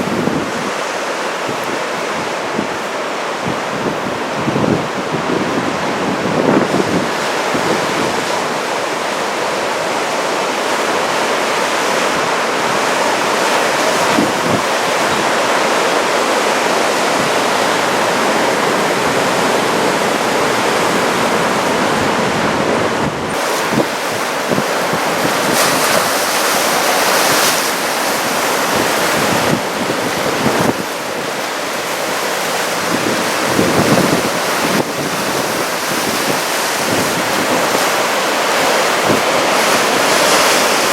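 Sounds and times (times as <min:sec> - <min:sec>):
wind buffeting microphone: 0:00.0 - 0:09.2, 0:11.1 - 0:40.9
heavy surf breaking: 0:00.0 - 0:40.9.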